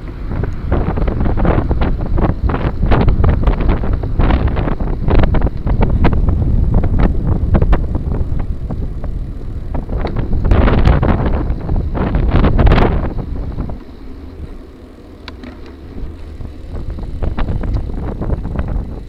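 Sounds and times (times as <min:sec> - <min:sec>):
bike knocking and rattling: 0:00.0 - 0:19.0
wind buffeting microphone: 0:00.0 - 0:19.0.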